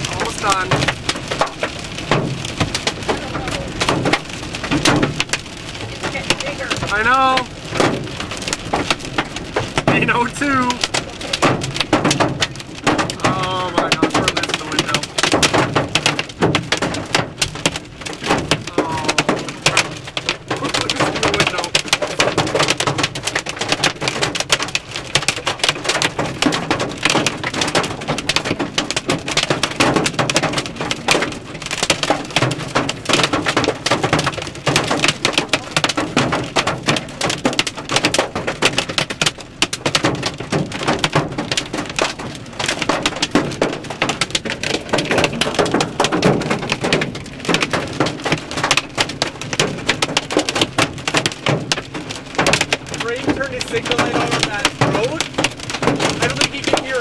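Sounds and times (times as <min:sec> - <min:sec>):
rain drumming on car roof: 0:00.0 - 0:57.0.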